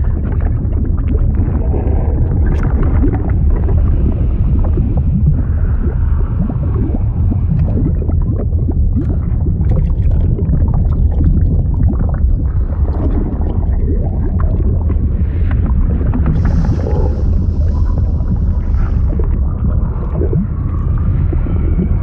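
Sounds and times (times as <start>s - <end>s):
deep rumble of churning fluid: 0.0s - 22.0s
gurgling and bubbling: 0.0s - 22.0s.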